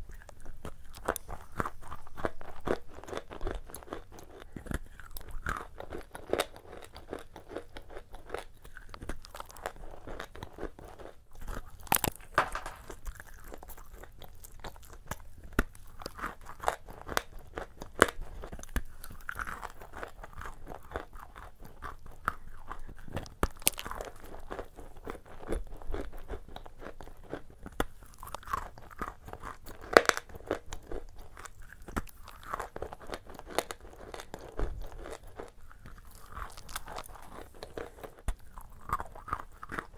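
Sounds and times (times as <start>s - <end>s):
cookie crunching: 0.0s - 39.9s
soft chewing: 0.0s - 39.9s.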